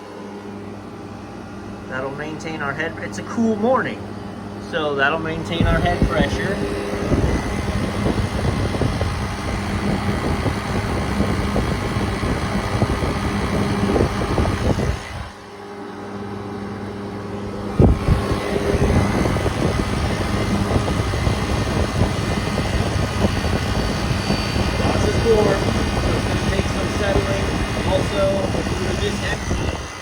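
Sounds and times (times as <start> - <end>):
condenser fan running: 0.0 - 30.0
condensing unit humming: 0.0 - 30.0.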